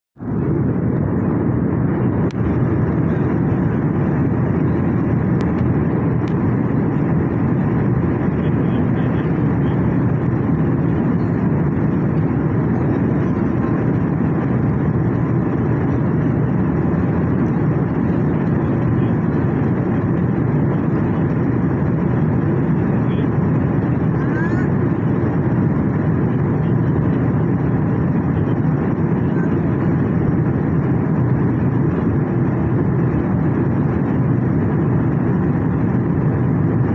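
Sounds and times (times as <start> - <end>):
airliner cabin noise: 0.2 - 36.9.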